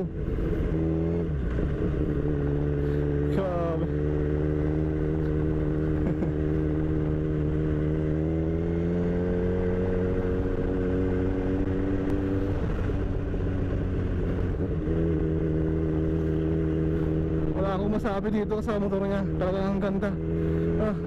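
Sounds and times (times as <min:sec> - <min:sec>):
motorcycle engine cruising: 0:00.0 - 0:21.0.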